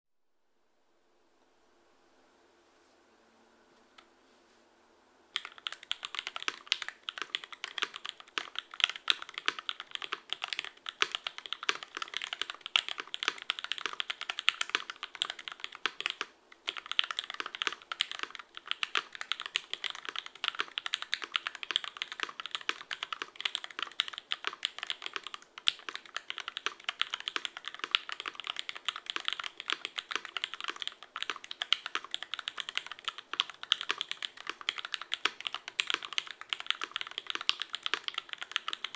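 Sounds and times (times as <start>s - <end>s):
fast typing on mechanical keyboard: 5.4s - 38.9s.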